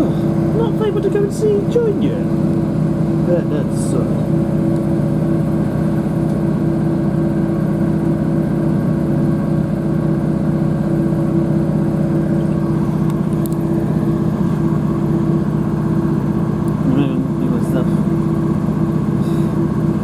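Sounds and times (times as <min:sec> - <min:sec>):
train diesel engine droning: 0:00.0 - 0:20.0.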